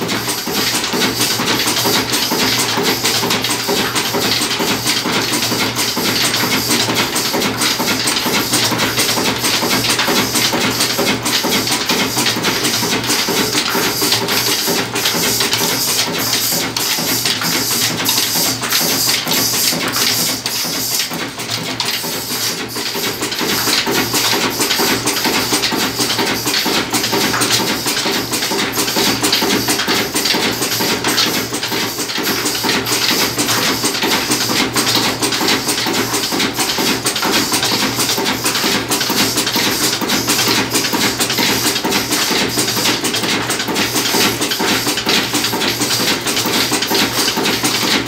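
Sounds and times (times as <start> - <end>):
diesel engine knocking steadily: 0.0 - 48.0.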